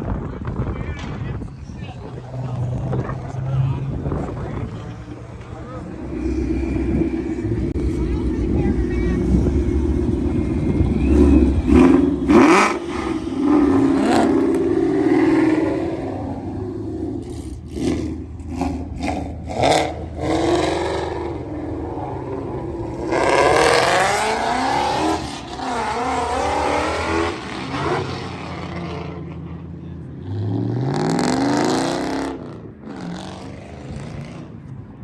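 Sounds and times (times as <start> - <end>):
car engines revving: 0.0 - 35.0
cars driving by: 0.0 - 35.0.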